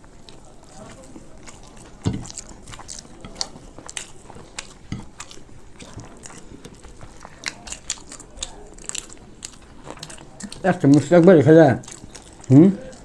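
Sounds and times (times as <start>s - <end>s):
wet chewing and mouth clicks: 0.0s - 13.0s.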